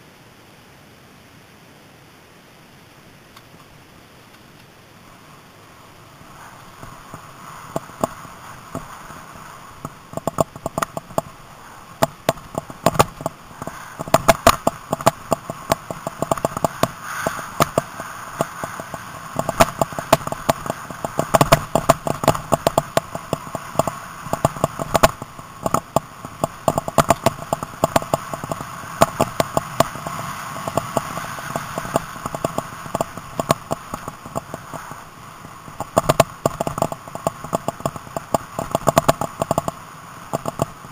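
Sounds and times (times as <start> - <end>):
mountain bike rattling over rough ground: 3.4 - 40.9
steady whirring: 5.1 - 40.9.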